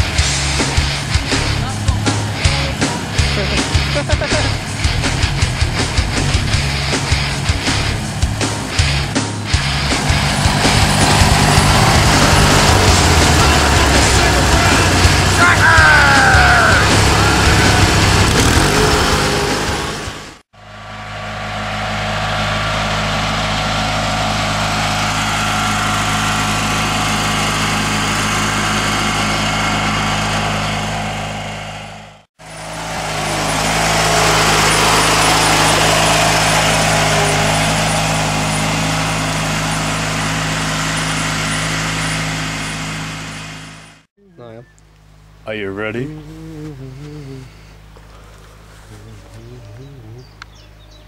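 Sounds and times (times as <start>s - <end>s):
ride-on lawn mower engine running: 0.0s - 51.0s.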